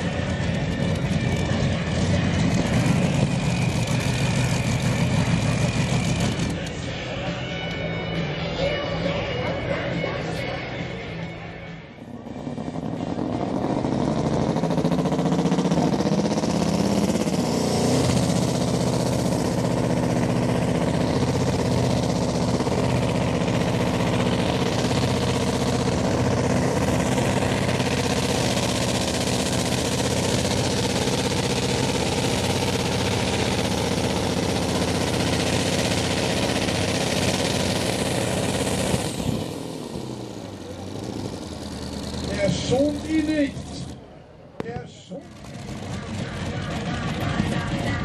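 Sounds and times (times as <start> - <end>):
tractor engine running at high revs: 0.0 - 48.0.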